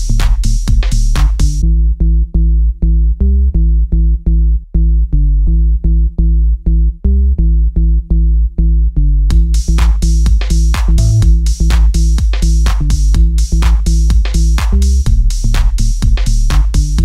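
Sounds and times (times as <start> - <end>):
electronic music with synth bass: 0.0 - 17.0.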